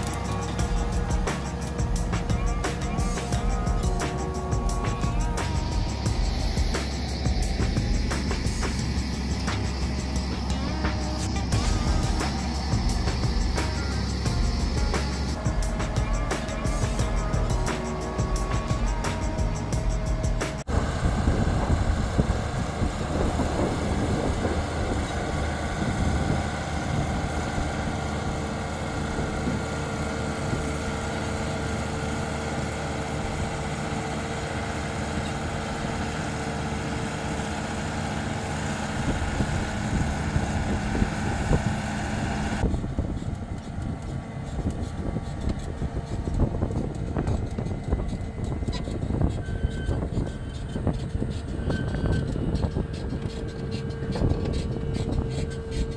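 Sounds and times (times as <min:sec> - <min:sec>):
tractor diesel engine: 0:00.0 - 0:55.9
trencher working: 0:00.0 - 0:55.9.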